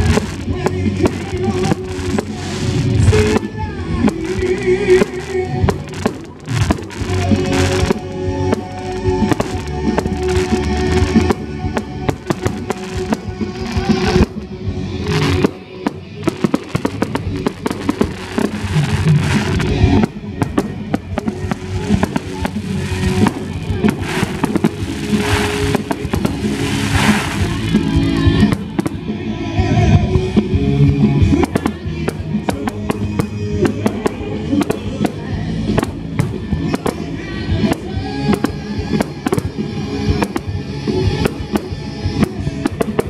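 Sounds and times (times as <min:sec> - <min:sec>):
fireworks bangs and crackling: 0:00.0 - 0:43.0
music: 0:00.0 - 0:43.0.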